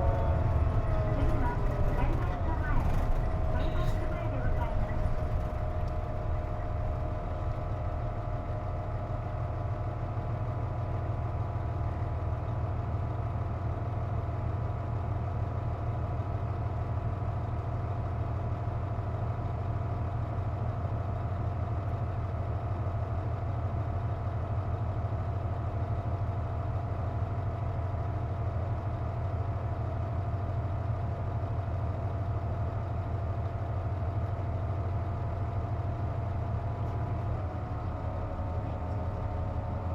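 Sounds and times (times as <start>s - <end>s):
diesel bus engine rumbling: 0.0s - 39.9s.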